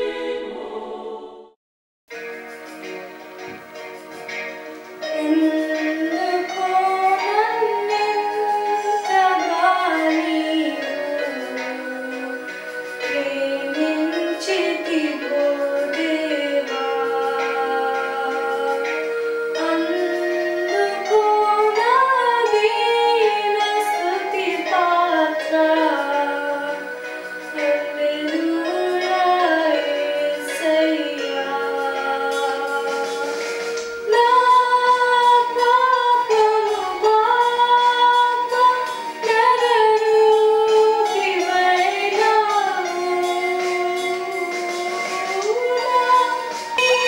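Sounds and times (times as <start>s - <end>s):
music: 0.0s - 47.0s
woman singing slow melody: 5.1s - 47.0s.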